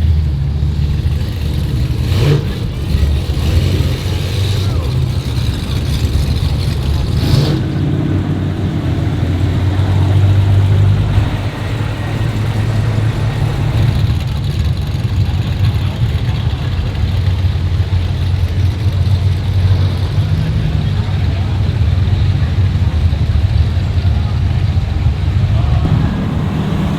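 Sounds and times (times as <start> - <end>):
car engine running: 0.0 - 22.4, 25.8 - 26.9.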